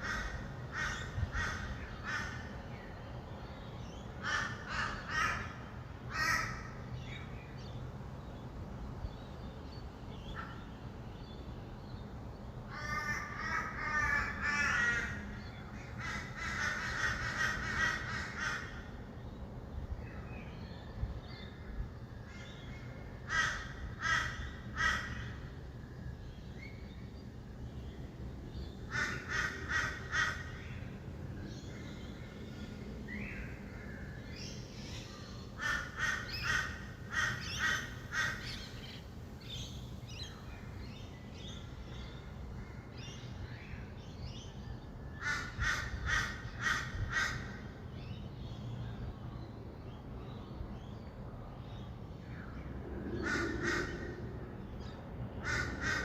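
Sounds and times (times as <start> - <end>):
distant city traffic hum: 0.0 - 56.0.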